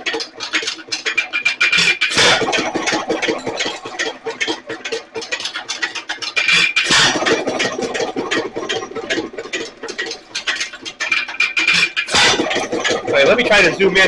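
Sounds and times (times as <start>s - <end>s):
engine mechanical clatter: 0.0s - 14.0s.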